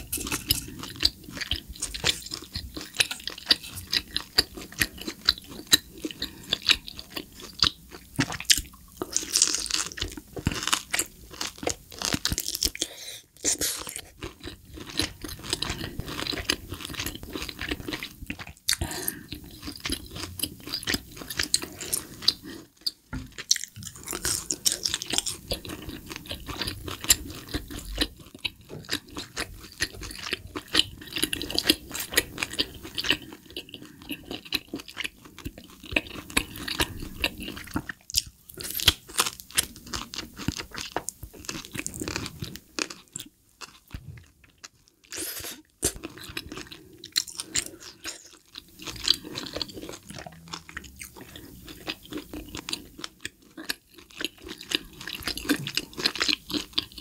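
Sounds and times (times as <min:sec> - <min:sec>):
wet crunchy chewing: 0:00.0 - 0:57.0.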